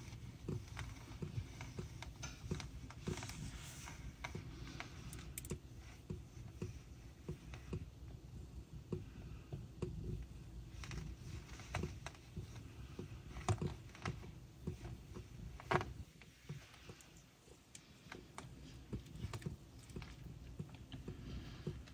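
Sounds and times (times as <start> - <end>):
kittens suckling wet clicking: 0.1 - 21.9.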